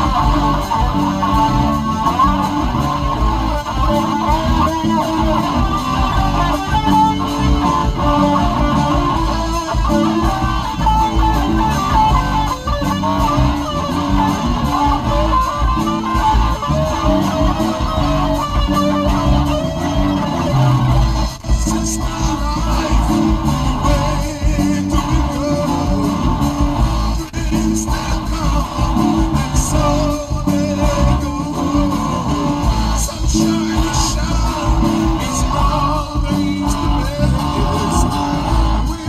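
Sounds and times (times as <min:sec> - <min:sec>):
band music with guitar: 0:00.0 - 0:39.0
bass guitar: 0:00.0 - 0:39.0.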